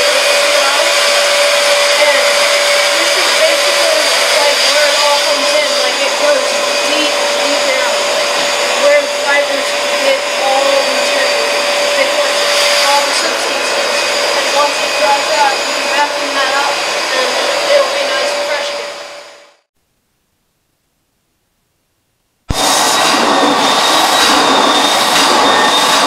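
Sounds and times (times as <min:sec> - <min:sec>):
carpet extractor vacuum whine: 0:00.0 - 0:19.6, 0:22.5 - 0:26.0.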